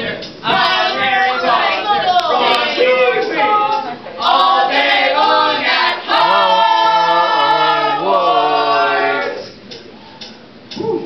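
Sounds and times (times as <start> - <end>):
group singing a cappella: 0.0 - 9.6.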